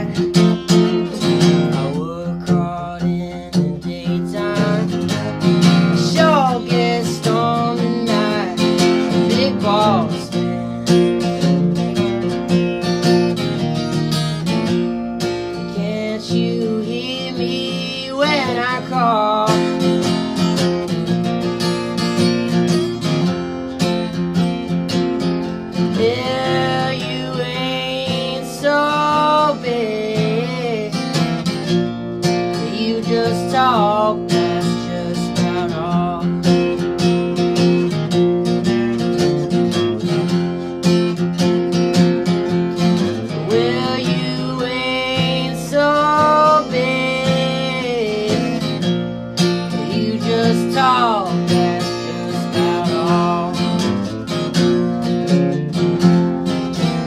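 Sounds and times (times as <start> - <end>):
young man singing: 0.0 - 21.0, 25.3 - 55.3
acoustic guitar strumming: 0.0 - 57.0.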